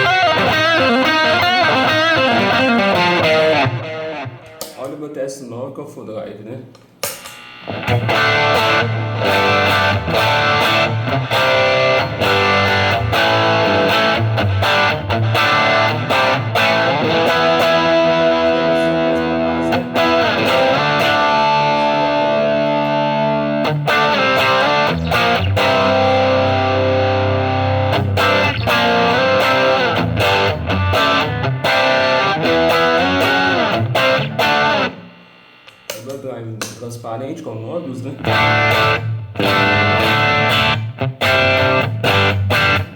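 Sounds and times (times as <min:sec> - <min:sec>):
overdriven electric guitar: 0:00.0 - 0:04.8, 0:07.0 - 0:36.0, 0:38.1 - 0:42.9.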